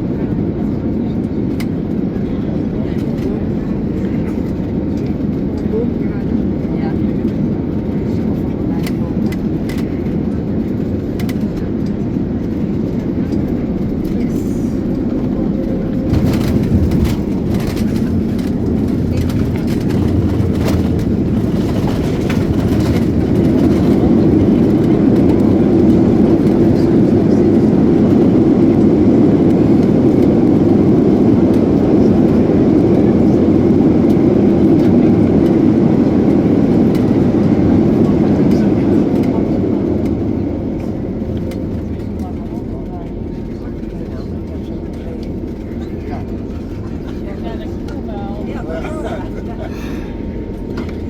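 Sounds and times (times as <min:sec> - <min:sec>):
aircraft cabin engine and airflow noise: 0:00.0 - 0:51.0.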